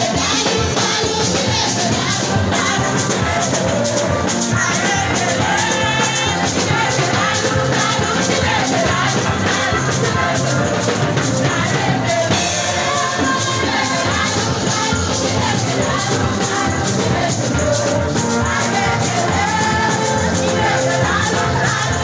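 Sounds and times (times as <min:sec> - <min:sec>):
amplified band with driving beat: 0:00.0 - 0:22.0
choir singing gospel song: 0:00.0 - 0:22.0.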